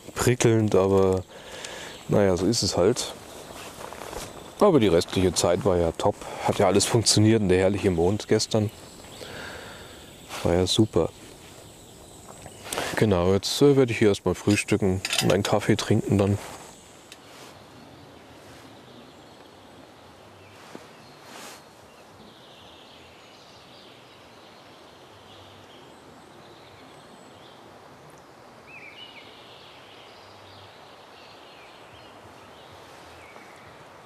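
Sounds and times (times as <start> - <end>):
faint forest hush: 0.0 - 34.0
small birds calling: 0.0 - 34.0.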